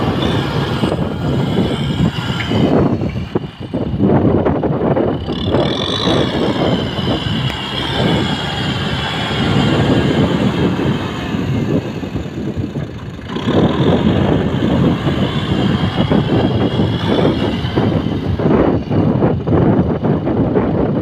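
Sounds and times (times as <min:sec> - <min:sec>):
tractor diesel engine working hard: 0:00.0 - 0:21.0.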